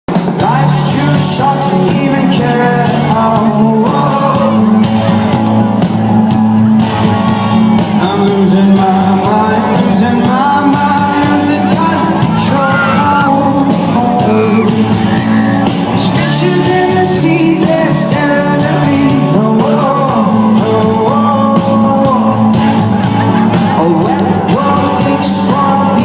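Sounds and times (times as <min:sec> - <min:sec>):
crowd shouting and whooping: 0:00.1 - 0:26.0
lead singer singing: 0:00.1 - 0:26.0
live rock band playing: 0:00.1 - 0:26.0.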